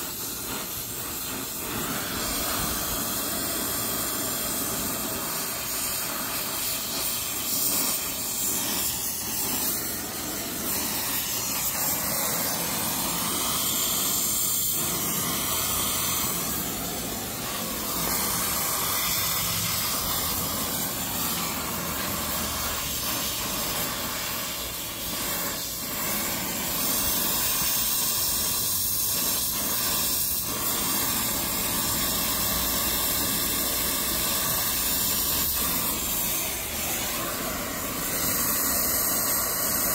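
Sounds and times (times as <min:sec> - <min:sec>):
gas torch flame hissing: 0:00.0 - 0:39.9.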